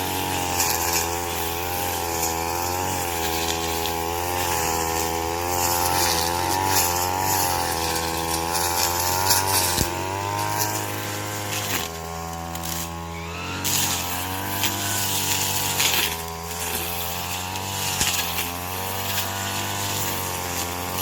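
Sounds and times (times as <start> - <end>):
harsh rasping of cutting stalks: 0.0 - 21.0
petrol cutting machine engine: 0.0 - 21.0.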